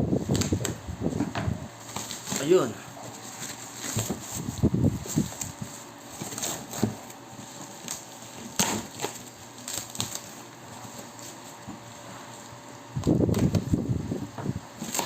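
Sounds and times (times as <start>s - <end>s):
packaging crackling and rustling: 1.8s - 13.7s, 14.8s - 15.0s.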